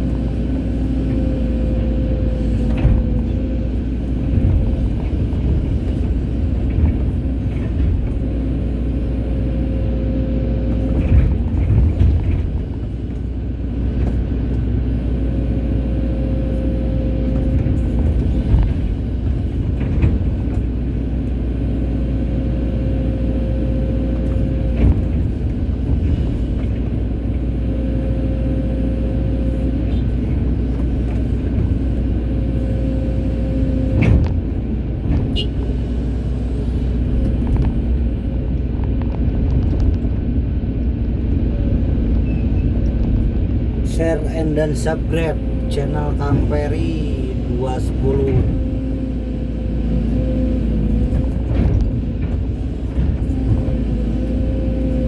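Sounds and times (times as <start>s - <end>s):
excavator diesel engine running: 0.0s - 55.0s
excavator whine: 0.0s - 55.0s.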